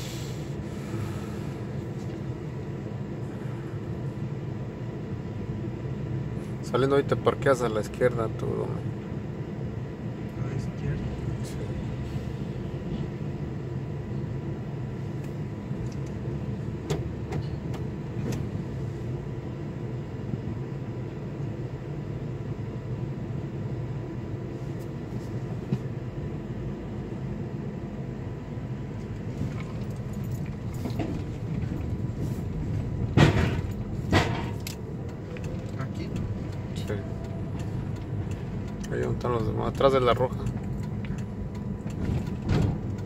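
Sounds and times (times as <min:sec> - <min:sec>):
engine rumble inside vehicle: 0:00.0 - 0:43.0.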